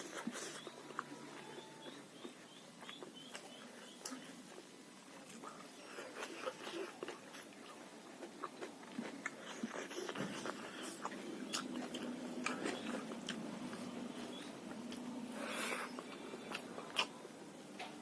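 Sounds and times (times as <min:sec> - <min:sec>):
mouth clicks and food crunches: 0:00.0 - 0:04.6, 0:05.2 - 0:17.2
faint steady hum: 0:00.0 - 0:18.0
person chewing food: 0:00.0 - 0:18.0.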